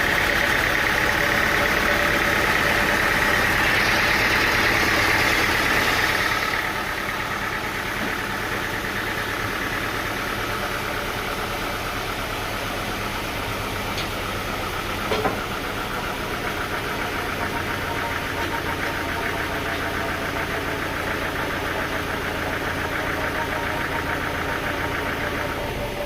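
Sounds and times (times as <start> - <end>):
engine pulsing steadily: 0.0 - 26.0.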